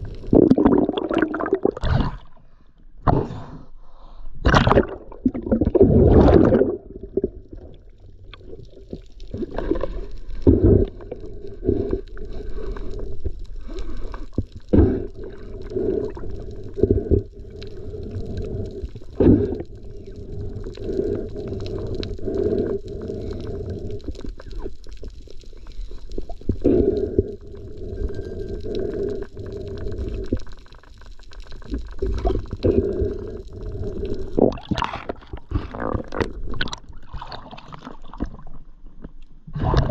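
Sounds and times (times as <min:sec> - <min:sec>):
muffled underwater wash: 0:00.0 - 0:02.7, 0:04.4 - 0:39.9.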